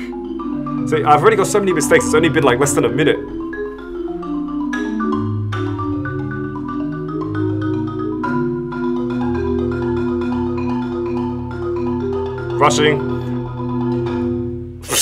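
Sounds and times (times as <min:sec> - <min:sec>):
marimba rolled notes: 0:00.0 - 0:14.8.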